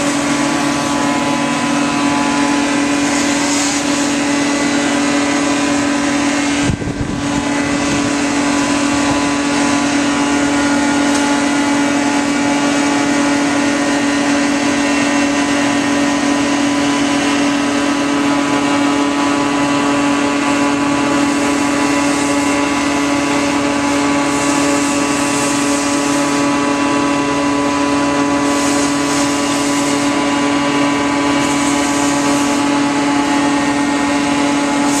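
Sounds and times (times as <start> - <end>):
machinery engine droning: 0.0 - 35.0.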